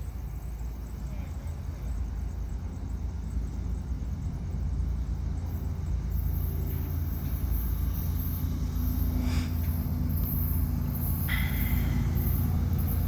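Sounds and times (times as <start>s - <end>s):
freight train rumble: 0.0s - 13.0s.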